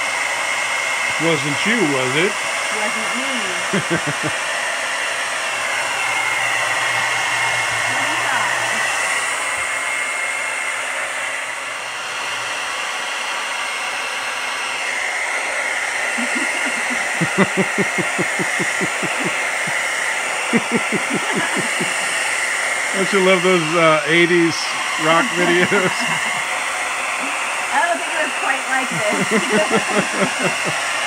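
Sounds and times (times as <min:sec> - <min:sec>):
hair dryer blowing: 0:00.0 - 0:31.0.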